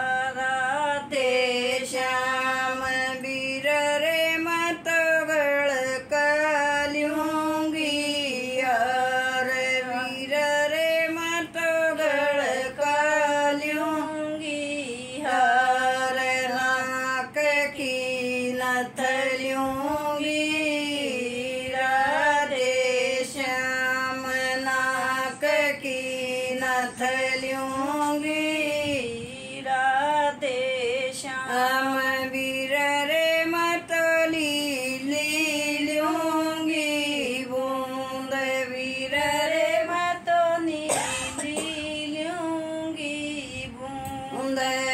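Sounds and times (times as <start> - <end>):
woman singing unaccompanied: 0.0 - 44.9.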